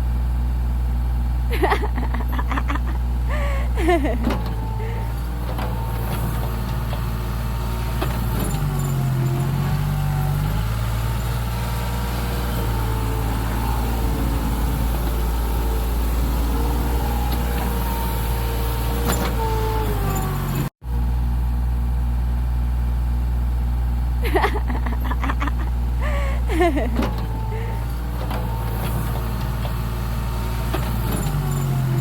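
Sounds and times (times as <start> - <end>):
excavator engine running: 0.1 - 32.0.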